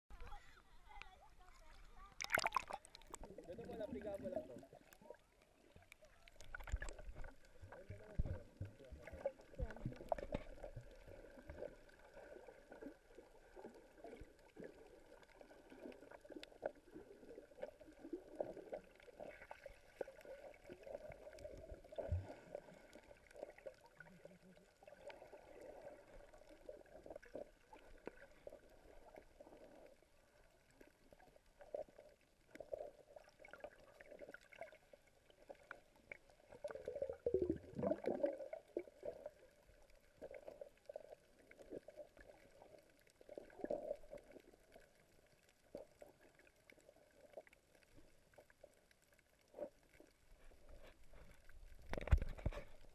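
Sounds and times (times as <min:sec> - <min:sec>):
underwater water swishing: 0:00.1 - 0:52.9.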